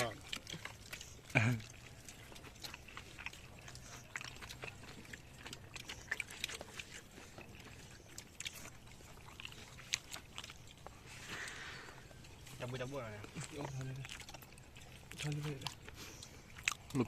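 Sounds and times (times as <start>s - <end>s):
faint low hum: 0.0s - 17.0s
people chewing: 0.0s - 17.0s.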